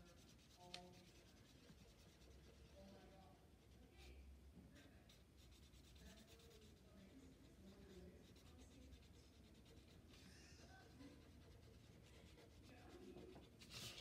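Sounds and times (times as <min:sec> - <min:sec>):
marker scratching on paper: 0:00.0 - 0:04.2, 0:05.1 - 0:10.2, 0:10.8 - 0:14.0.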